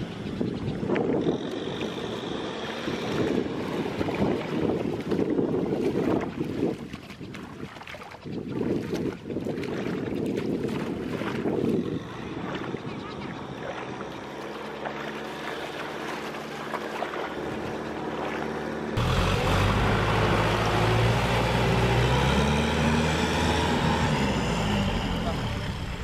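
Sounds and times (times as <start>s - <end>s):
tractor engine running: 0.0s - 6.2s, 10.2s - 26.0s
tractor churning through mud: 0.0s - 26.0s.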